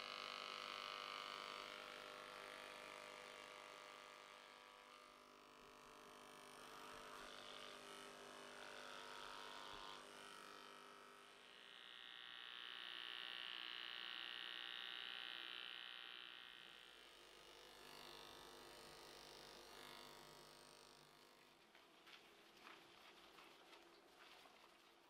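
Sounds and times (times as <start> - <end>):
electric hair clippers buzzing: 0.0 - 21.4.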